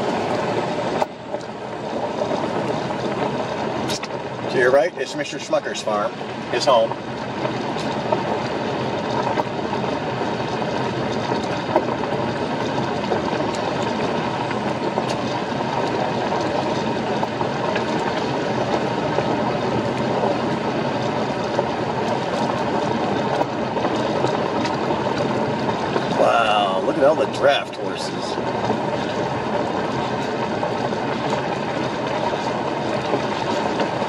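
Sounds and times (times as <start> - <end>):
tyres rolling on gravel road: 0.0 - 34.0.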